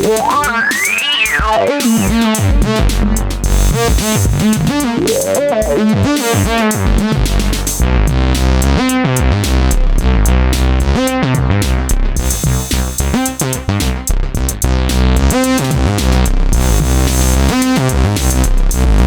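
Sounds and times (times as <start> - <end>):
drum machine beat: 0.0 - 19.0
synthesizer bass line: 0.0 - 19.0.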